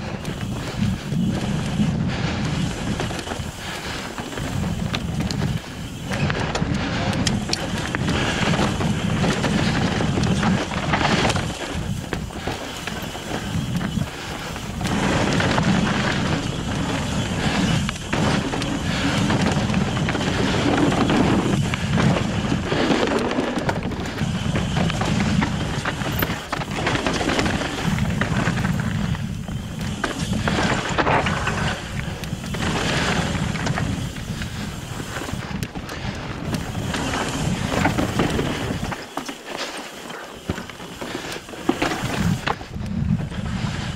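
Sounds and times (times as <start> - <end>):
wind buffeting microphone: 0.0 - 39.2, 40.4 - 43.9
bike rattles: 0.0 - 43.9
tyres rolling over rock: 2.5 - 42.7.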